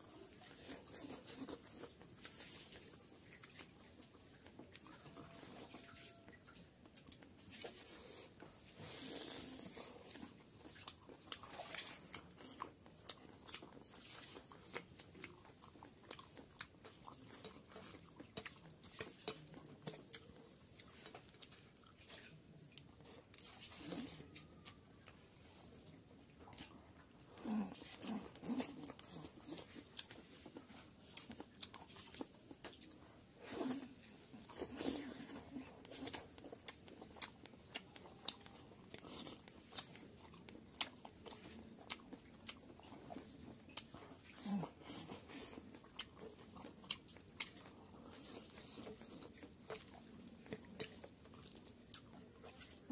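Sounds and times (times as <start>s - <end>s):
chewing and crunching food: 0.0s - 52.9s.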